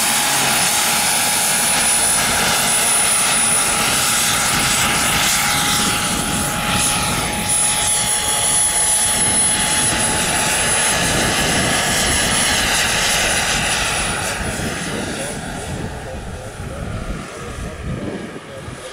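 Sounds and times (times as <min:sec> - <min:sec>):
helicopter rotors rushing: 0:00.0 - 0:18.9
high-pitched turbine whistle: 0:00.0 - 0:18.9.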